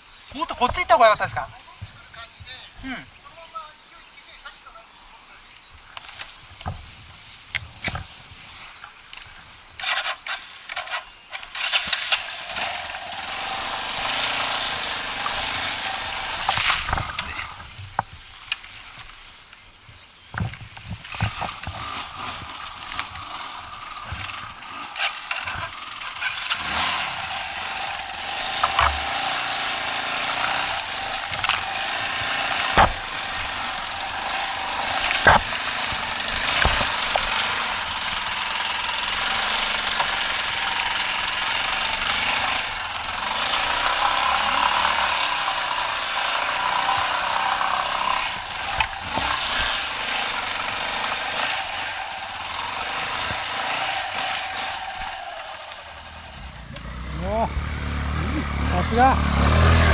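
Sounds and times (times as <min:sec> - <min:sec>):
high insect buzz: 0:00.0 - 0:59.9
motorcycle engines revving: 0:05.8 - 0:19.3, 0:20.4 - 0:59.9.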